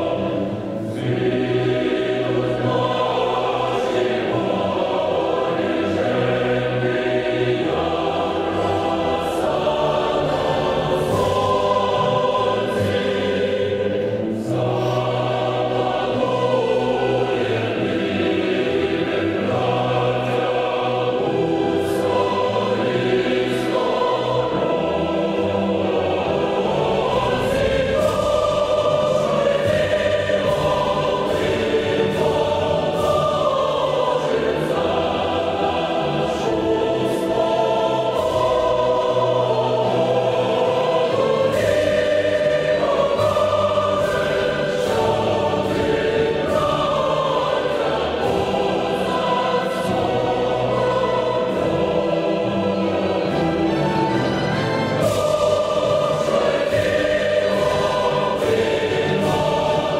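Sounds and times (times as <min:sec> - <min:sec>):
choir singing: 0:00.0 - 0:59.9
instrumental accompaniment: 0:00.0 - 0:59.9.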